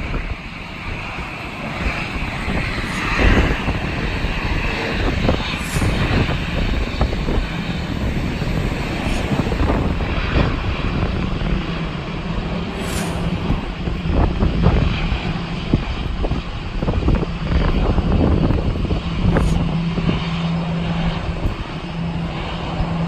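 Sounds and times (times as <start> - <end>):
jet engines running: 0.0 - 23.0
wind buffeting microphone: 0.0 - 23.0.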